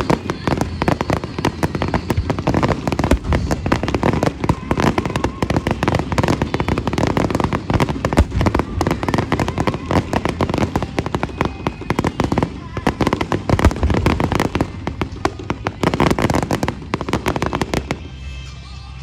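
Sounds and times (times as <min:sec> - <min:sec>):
fireworks booming and crackling: 0:00.0 - 0:18.4.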